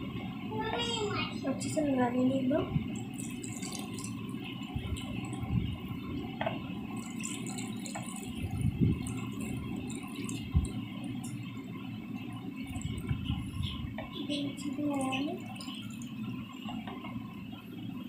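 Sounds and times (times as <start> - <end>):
water trickling and splashing: 1.6 - 17.4.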